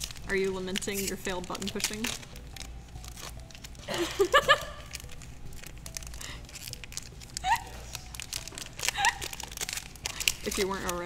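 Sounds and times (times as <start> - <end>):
foil wrappers crinkling and tearing: 0.0 - 11.0.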